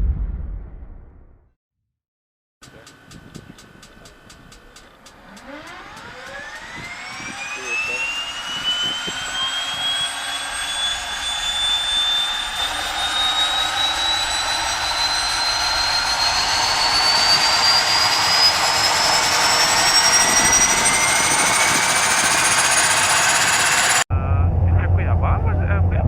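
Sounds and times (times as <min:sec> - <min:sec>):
turboprop engine with turbine whine: 0:02.6 - 0:26.0.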